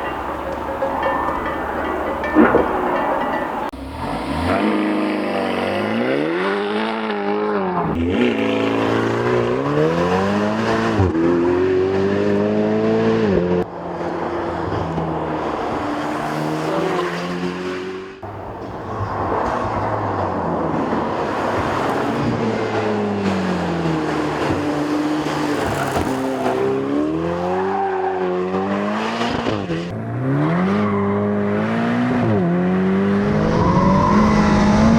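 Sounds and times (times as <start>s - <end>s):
sports car engine accelerating: 3.5s - 34.9s.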